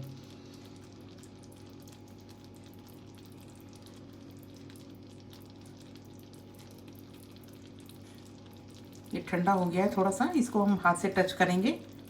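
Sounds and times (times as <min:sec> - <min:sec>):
steady low hum: 0:00.0 - 0:12.0
syrup sizzling and bubbling: 0:00.0 - 0:12.0.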